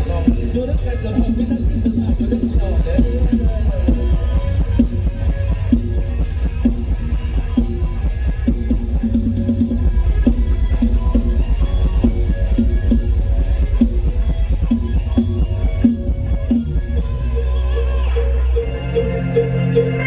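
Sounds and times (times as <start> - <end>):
drum kit beat: 0.0 - 20.0
electric bass: 0.0 - 20.0
held instrumental tones: 0.0 - 20.0.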